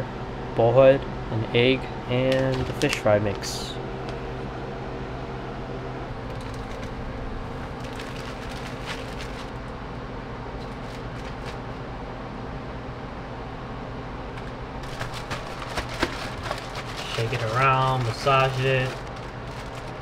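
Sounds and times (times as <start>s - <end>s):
room fan whirring: 0.0s - 20.0s
low hum: 3.6s - 20.0s.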